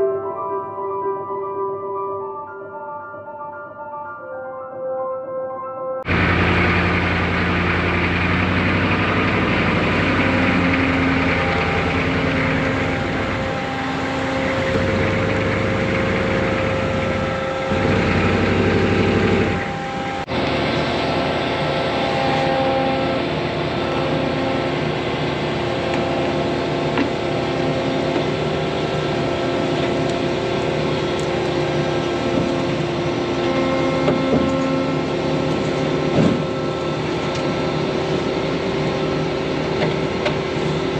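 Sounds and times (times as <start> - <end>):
farm machine engine running: 6.1 - 40.9.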